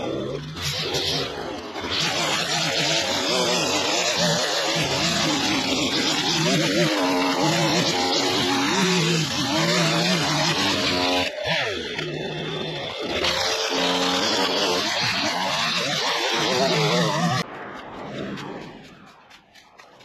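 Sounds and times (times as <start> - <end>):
small two-stroke engine running: 0.0 - 17.5.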